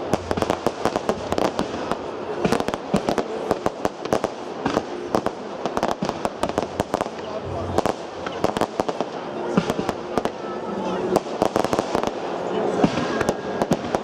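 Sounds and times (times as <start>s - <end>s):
fireworks bangs and pops: 0.0s - 14.0s
fireworks hiss: 0.0s - 14.0s.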